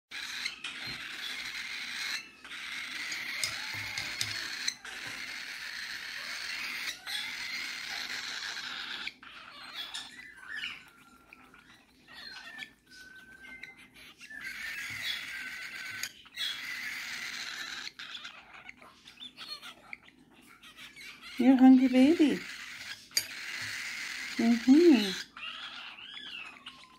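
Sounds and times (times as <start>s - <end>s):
baby bird begging calls: 0.1s - 26.9s.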